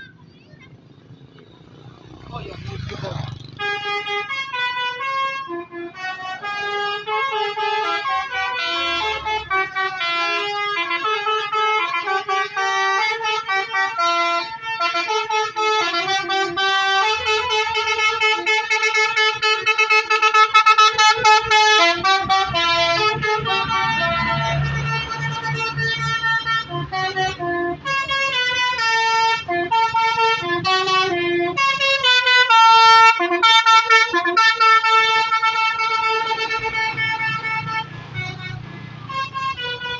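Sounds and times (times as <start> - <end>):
musical bus horn playing a tune: 3.6 - 39.9.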